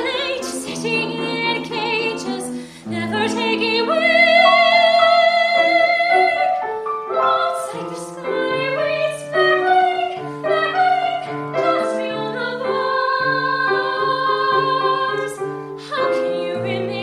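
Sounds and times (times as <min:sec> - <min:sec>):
grand piano playing: 0:00.0 - 0:17.0.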